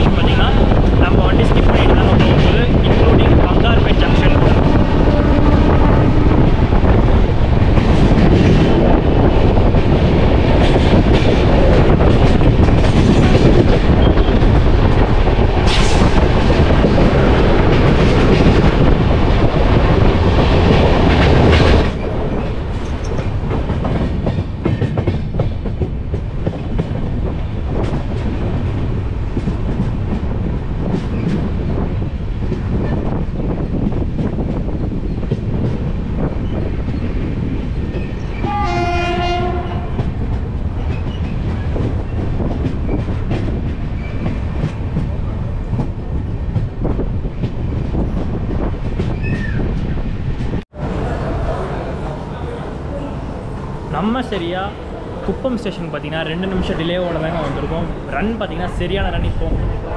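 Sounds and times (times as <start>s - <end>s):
train wheels rattling on rails: 0.0s - 59.9s.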